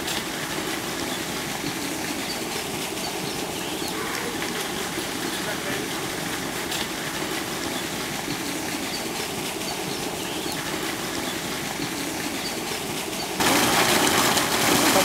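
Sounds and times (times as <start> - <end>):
wood fire hissing and crackling: 0.0 - 15.0.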